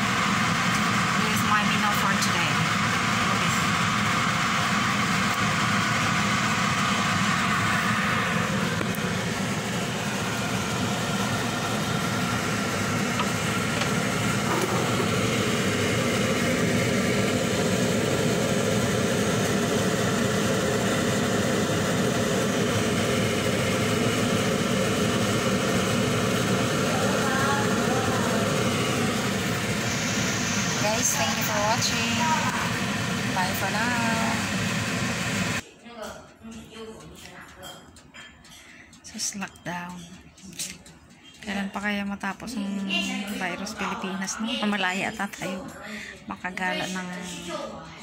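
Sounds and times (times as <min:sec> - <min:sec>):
steady mechanical running noise: 0:00.0 - 0:35.7, 0:36.4 - 0:48.0.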